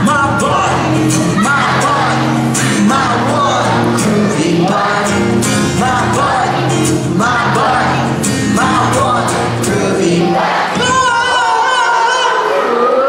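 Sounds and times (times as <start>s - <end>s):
strummed acoustic guitar: 0.0s - 11.4s
audience singing a refrain: 0.0s - 13.0s
man singing: 0.0s - 13.0s.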